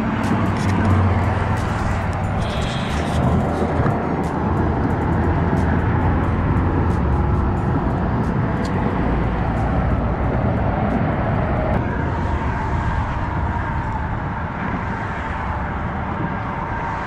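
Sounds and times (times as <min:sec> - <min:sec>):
road traffic: 0:00.0 - 0:17.0
wind buffeting microphone: 0:00.0 - 0:17.0.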